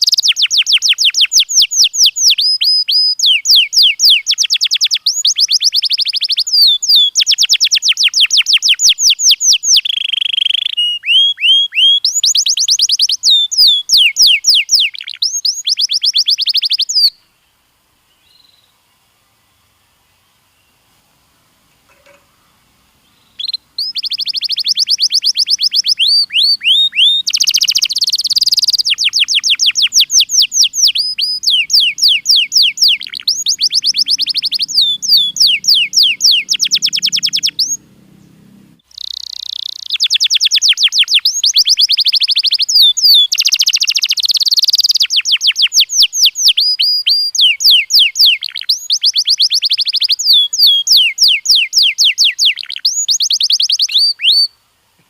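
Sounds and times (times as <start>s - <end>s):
canary singing in fast trills: 0.0s - 17.2s, 22.0s - 54.5s.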